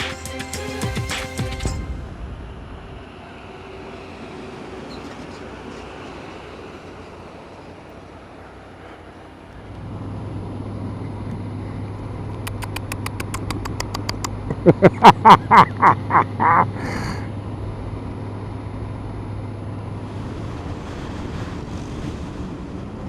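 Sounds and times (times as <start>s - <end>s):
low engine hum: 0.0s - 23.0s
road traffic noise: 0.0s - 23.0s.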